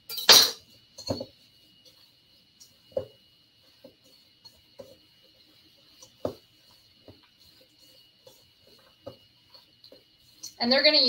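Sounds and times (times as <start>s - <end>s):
spatula knocking and scraping bowl: 0.0s - 11.0s.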